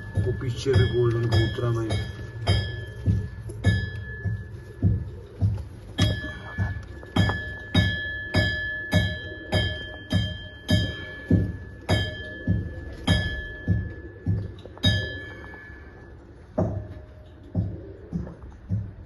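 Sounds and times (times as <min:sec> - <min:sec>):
low thump with bell-like chime: 0:00.0 - 0:15.3
music with steady beat: 0:00.0 - 0:19.0.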